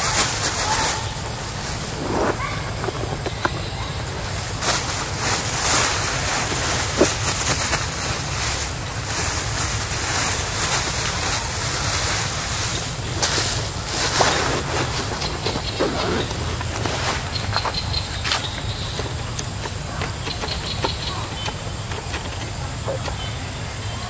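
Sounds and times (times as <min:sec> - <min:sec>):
wind buffeting microphone: 0:00.0 - 0:23.8.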